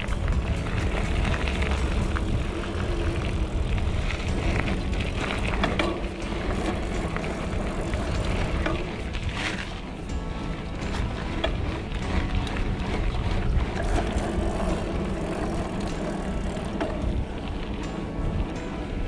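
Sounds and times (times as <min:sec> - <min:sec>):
bike clicks and rattles: 0:00.0 - 0:19.0
bike tyre rumble: 0:00.0 - 0:19.0
wind buffeting microphone: 0:00.0 - 0:19.0.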